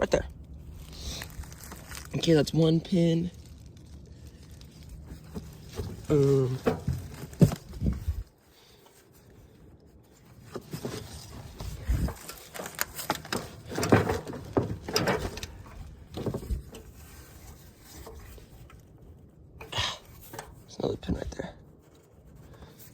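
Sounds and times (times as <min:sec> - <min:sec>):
rustling: 0:00.4 - 0:22.9.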